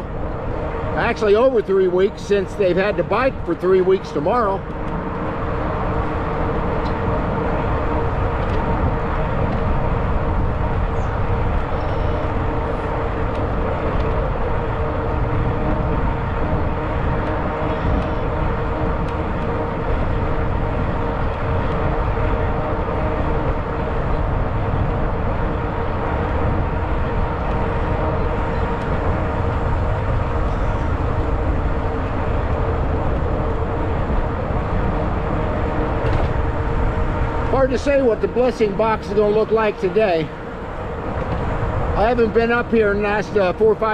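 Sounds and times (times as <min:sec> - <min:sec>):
electric bike hum: 0:00.0 - 0:43.9
wind rushing over microphone: 0:00.0 - 0:43.9.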